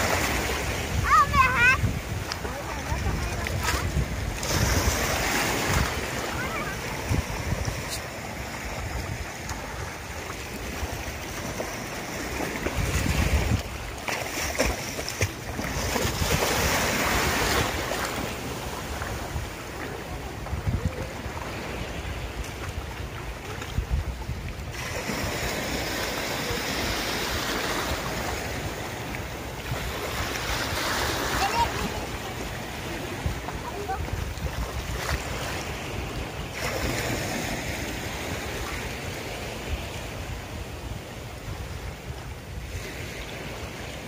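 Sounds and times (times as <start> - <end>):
small waves washing in: 0.0 - 44.0
wind buffeting microphone: 0.0 - 44.0.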